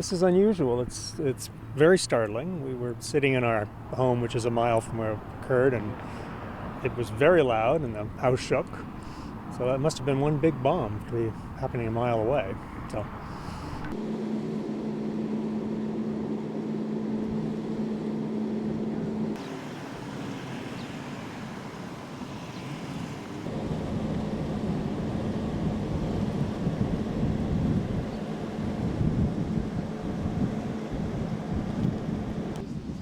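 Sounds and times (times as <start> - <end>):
low hum with rumble: 0.0 - 19.4, 23.5 - 33.0.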